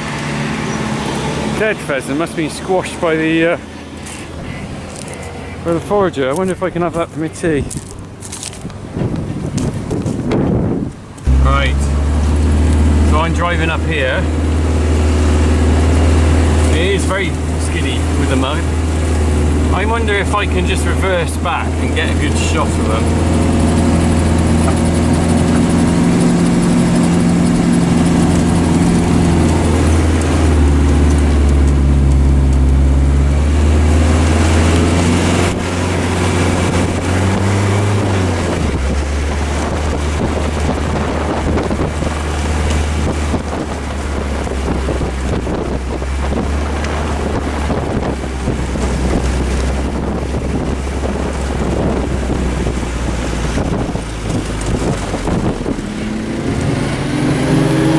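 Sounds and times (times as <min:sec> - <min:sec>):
tractor diesel engine running: 0:00.0 - 0:10.2, 0:11.0 - 0:57.9.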